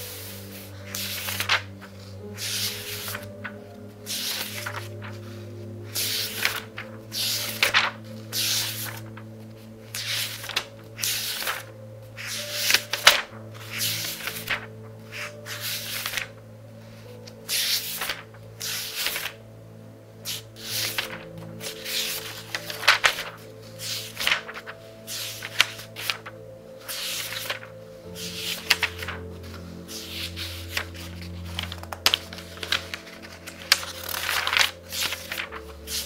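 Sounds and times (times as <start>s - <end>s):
book pages being turned: 0.0s - 19.4s, 20.2s - 36.0s.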